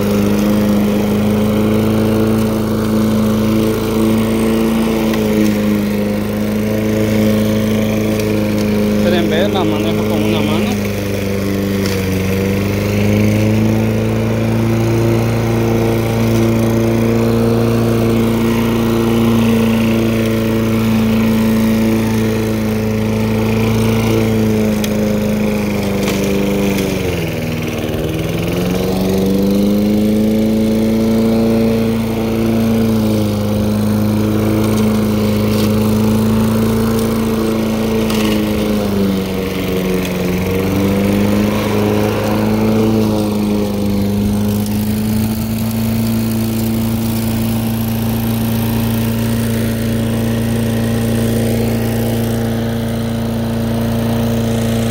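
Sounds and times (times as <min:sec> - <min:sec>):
lawn mower running: 0:00.0 - 0:54.9.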